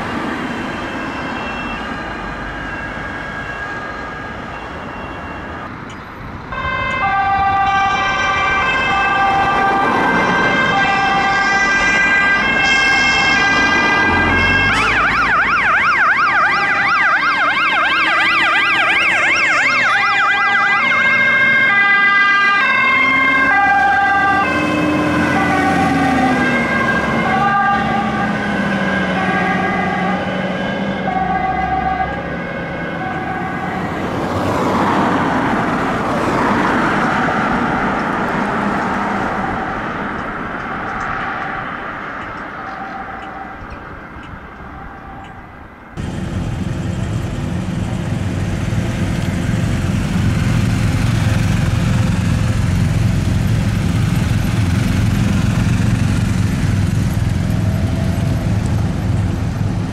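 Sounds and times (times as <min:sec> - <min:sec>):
fire truck sirens: 0:00.0 - 0:59.9
truck engines running: 0:00.0 - 0:59.9.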